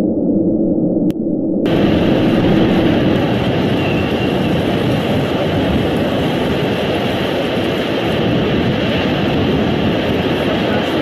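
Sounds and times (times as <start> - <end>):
wind roaring: 0.0 - 11.0
heavy surf breaking: 1.7 - 11.0.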